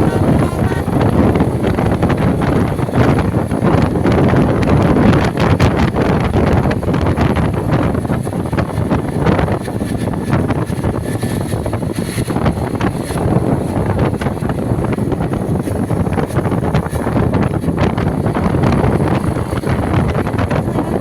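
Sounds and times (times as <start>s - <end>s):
road vehicles rumbling: 0.0s - 21.0s
wind buffeting microphone: 0.0s - 21.0s.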